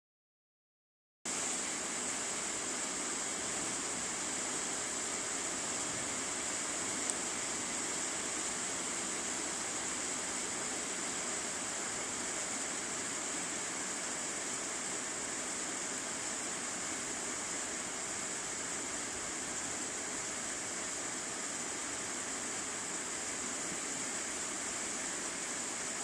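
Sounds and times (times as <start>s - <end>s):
steady rain: 1.3s - 26.0s.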